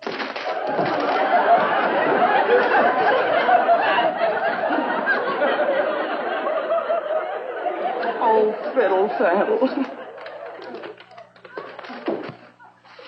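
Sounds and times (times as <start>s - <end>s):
studio audience laughing: 0.5s - 13.0s.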